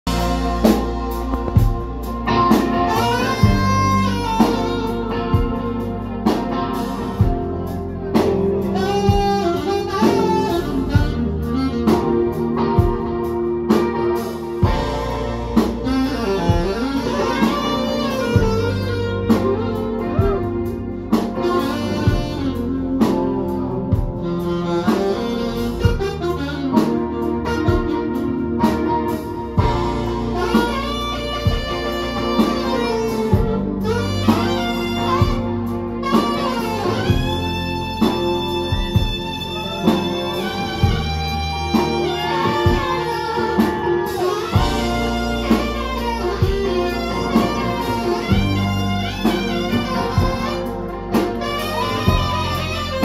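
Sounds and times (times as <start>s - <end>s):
electric guitar: 0.0s - 53.0s
saxophone: 0.0s - 53.0s
steady drum beat: 0.0s - 53.0s.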